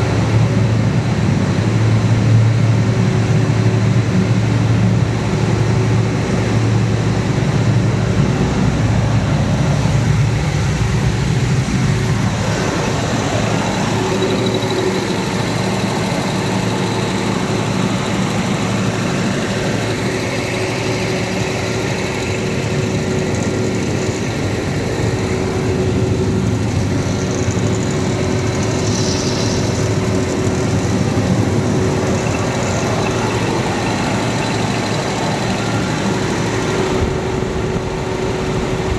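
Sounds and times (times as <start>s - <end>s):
diesel generator running: 0.0s - 38.9s.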